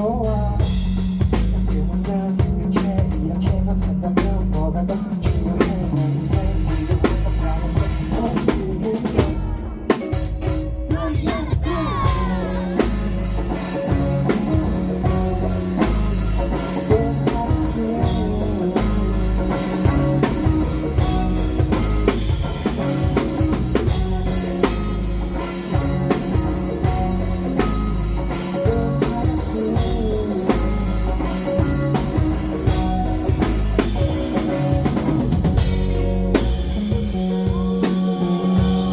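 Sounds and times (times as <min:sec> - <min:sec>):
instrumental rock band music: 0:00.0 - 0:38.9.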